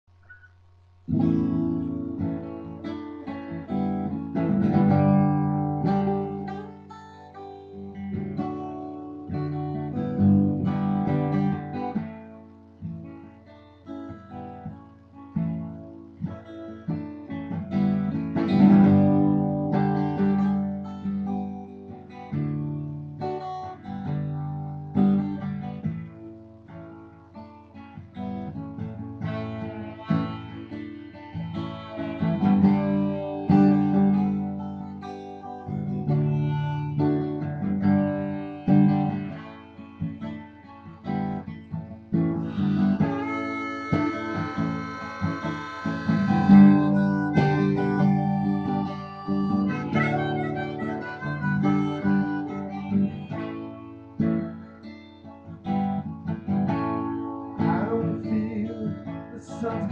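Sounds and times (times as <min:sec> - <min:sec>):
acoustic guitar strumming chords: 0:00.3 - 0:59.9.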